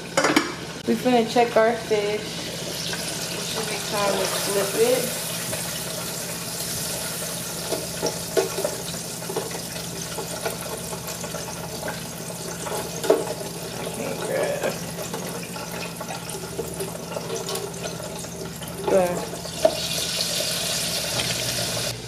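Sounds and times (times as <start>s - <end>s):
fish sizzling in hot oil: 1.3s - 22.0s.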